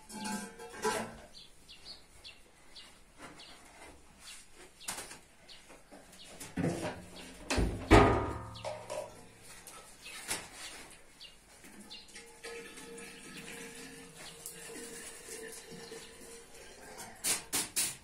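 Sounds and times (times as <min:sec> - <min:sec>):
birds chirping: 0:00.0 - 0:14.9, 0:15.5 - 0:16.3.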